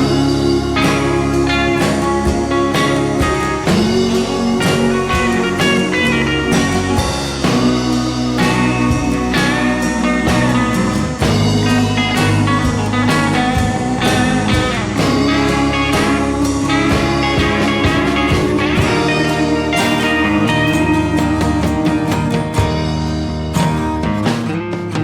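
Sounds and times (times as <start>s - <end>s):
rock music with guitar and drums: 0.0s - 25.0s.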